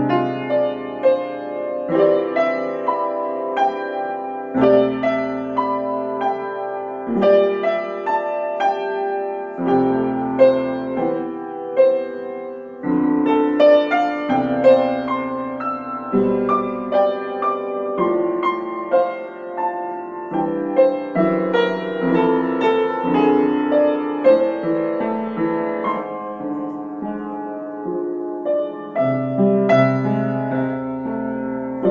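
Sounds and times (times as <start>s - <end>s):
solo piano piece: 0.0s - 31.9s.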